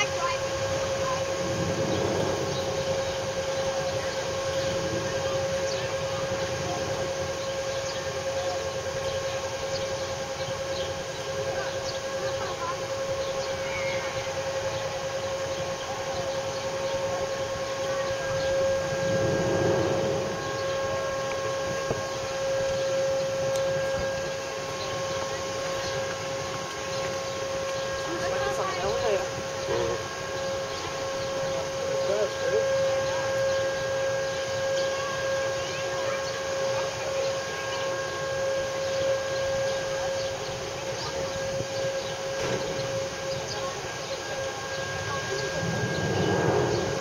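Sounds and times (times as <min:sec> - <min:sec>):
ship machinery droning: 0:00.0 - 0:47.0.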